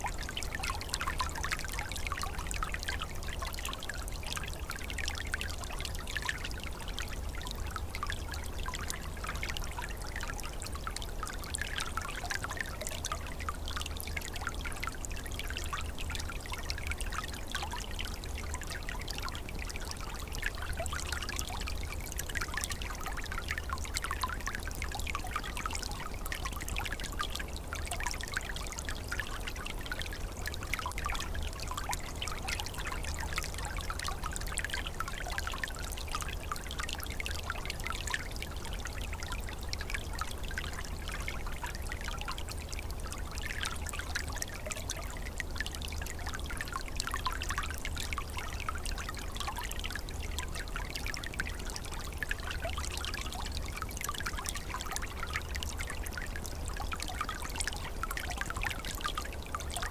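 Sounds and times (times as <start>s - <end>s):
stream flowing and trickling: 0.0s - 59.9s.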